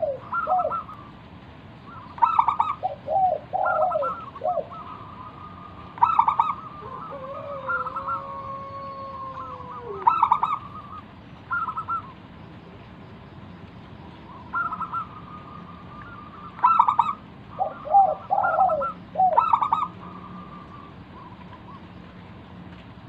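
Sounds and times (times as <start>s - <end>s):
dove cooing: 0.0s - 1.2s, 1.9s - 12.8s, 14.3s - 22.1s.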